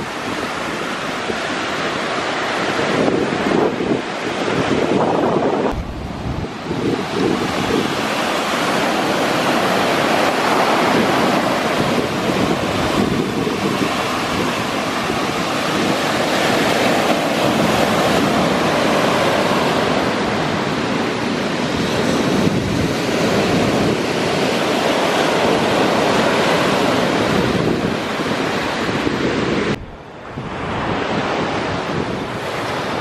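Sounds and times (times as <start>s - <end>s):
rough sea surf washing in: 0.0s - 33.0s
wind buffeting microphone: 0.0s - 33.0s.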